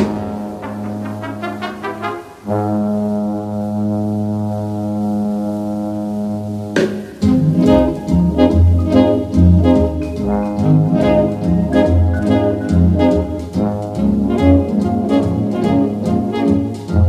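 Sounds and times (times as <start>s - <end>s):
bass line: 0.0s - 17.0s
brass background music: 0.0s - 17.0s.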